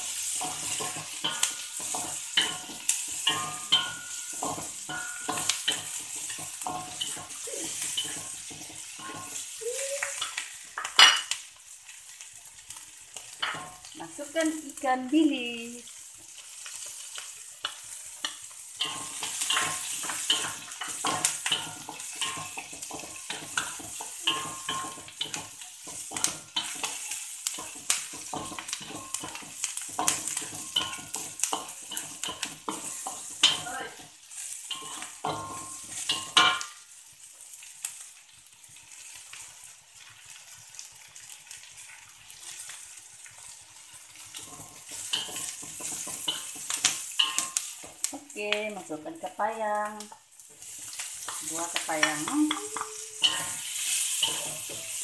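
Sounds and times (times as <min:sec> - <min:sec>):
spatula scraping a metal wok: 0:00.0 - 0:09.6, 0:15.9 - 0:36.7, 0:39.0 - 0:48.0, 0:50.4 - 0:55.0
food sizzling in hot oil: 0:00.0 - 0:55.0.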